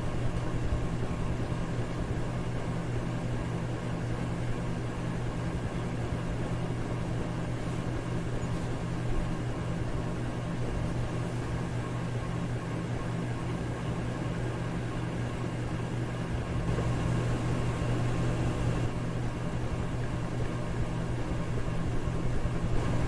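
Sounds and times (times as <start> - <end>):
electric fan running: 0.0 - 23.0.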